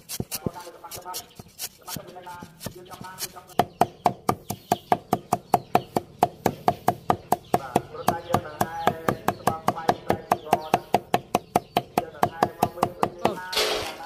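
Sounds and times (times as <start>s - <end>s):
cleaver chopping on wooden block: 0.0s - 13.9s.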